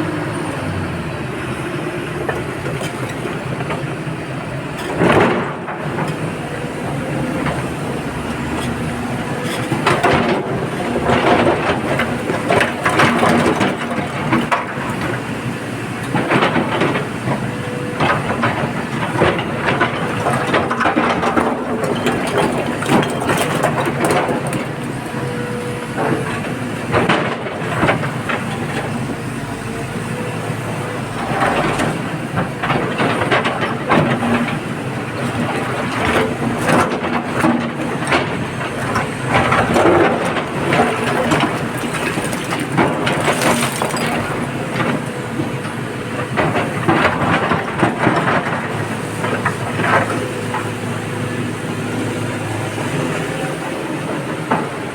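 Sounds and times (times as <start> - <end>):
diesel excavator engine running: 0.0 - 54.9.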